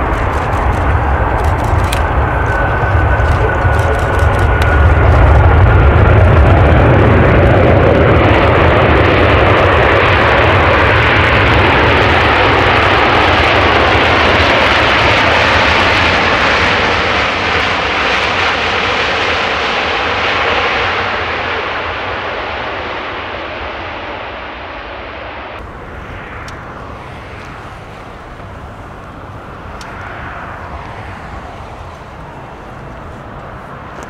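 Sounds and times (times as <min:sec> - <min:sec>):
jet engines roaring on takeoff: 0:00.0 - 0:34.0.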